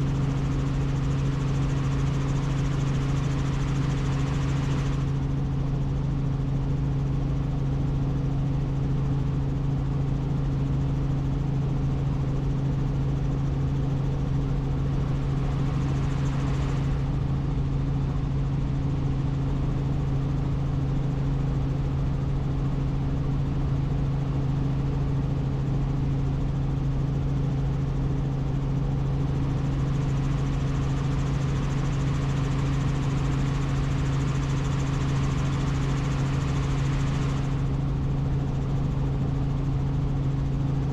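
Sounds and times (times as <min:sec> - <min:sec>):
helicopter drone: 0:00.0 - 0:40.9.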